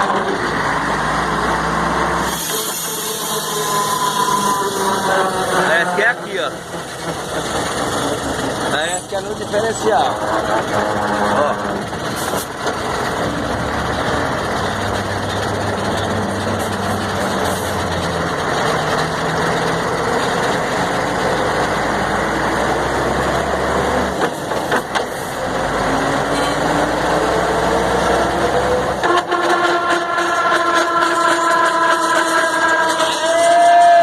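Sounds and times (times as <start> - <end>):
truck diesel engine driving: 0.0 - 34.0.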